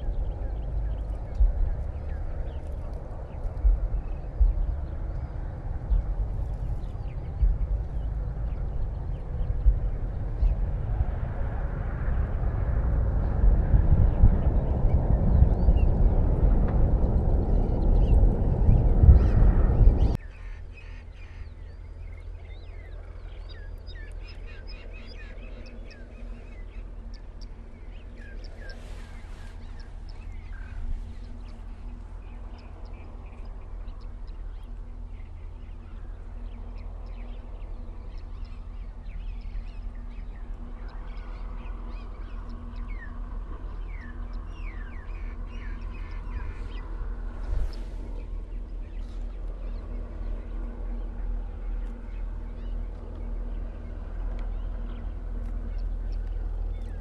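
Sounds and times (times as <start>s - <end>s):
birds chirping: 0.0s - 57.0s
steady low rumble: 0.0s - 57.0s.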